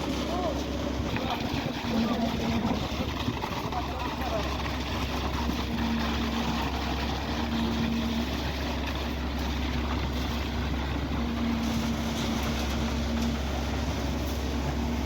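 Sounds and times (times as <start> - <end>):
heavy machinery engine rumble: 0.0 - 15.0.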